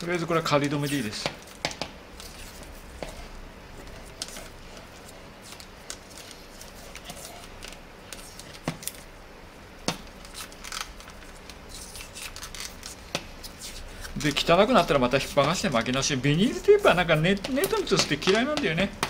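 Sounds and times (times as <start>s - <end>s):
tape rustling: 0.0s - 9.1s, 9.9s - 19.0s.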